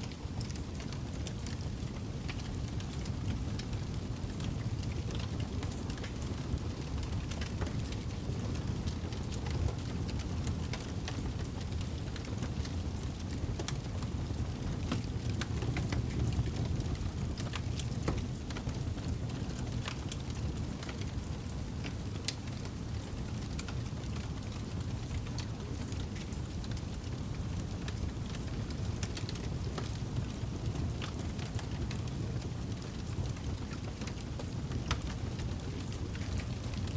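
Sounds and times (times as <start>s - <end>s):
campfire crackling and popping: 0.2s - 36.9s.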